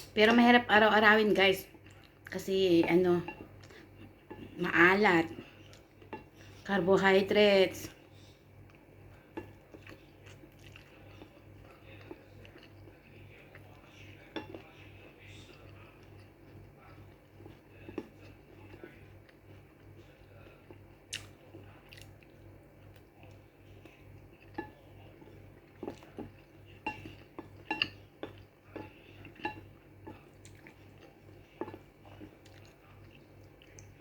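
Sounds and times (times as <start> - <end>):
soft chewing: 1.2 - 6.9, 7.9 - 34.0.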